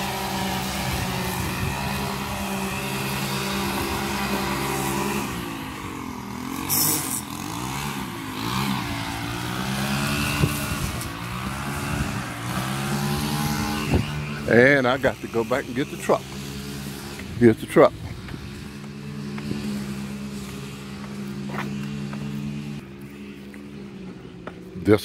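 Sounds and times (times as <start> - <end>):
small gas engine revving: 0.0 - 25.0.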